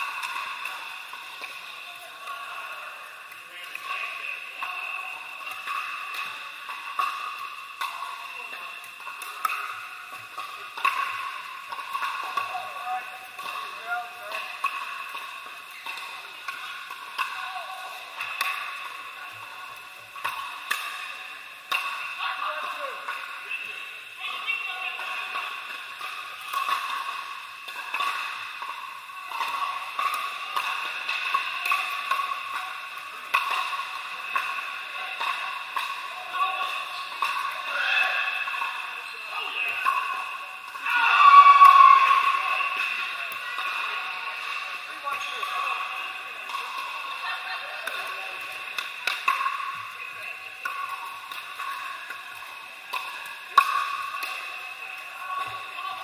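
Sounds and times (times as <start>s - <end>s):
paddles hitting plastic balls: 0.0s - 56.0s.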